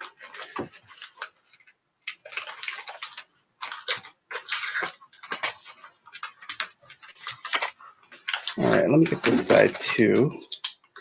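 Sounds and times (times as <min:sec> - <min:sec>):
cardboard and tape rustling: 0:00.0 - 0:11.0.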